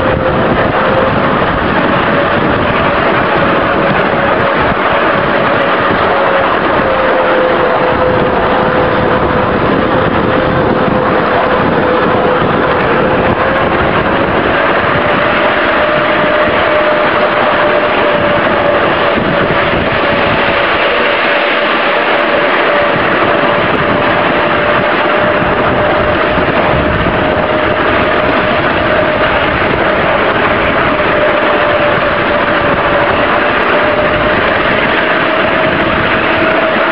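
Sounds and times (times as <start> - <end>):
electric locomotive whine: 0.0 - 36.9
wheels running on track: 0.0 - 36.9.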